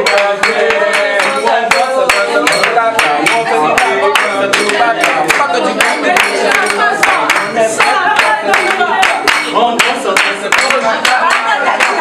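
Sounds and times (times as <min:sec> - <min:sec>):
group clapping in rhythm: 0:00.0 - 0:12.0
voices singing along: 0:00.0 - 0:12.0.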